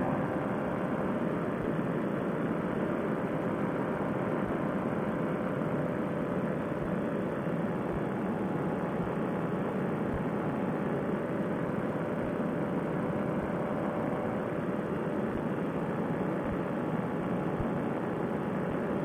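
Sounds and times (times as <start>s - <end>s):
faint steady hum: 0.0s - 19.0s
paramotor engine and propeller: 0.0s - 19.0s.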